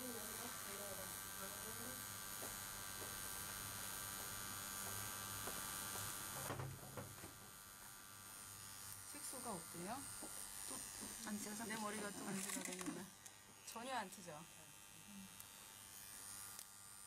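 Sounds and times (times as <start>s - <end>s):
tattoo machine buzzing: 0.0s - 17.0s.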